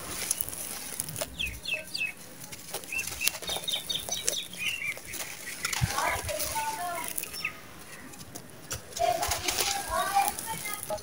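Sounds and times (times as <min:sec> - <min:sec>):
birds chirping: 0:00.0 - 0:11.0
dirt clods crumbling in hands: 0:00.0 - 0:11.0.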